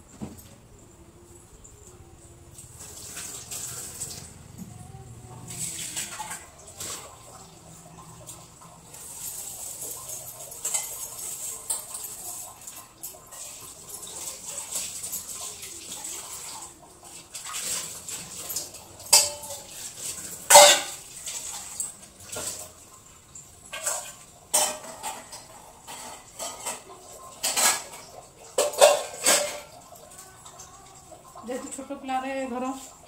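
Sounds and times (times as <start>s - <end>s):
metal pots and utensils clattering: 5.3s - 33.0s.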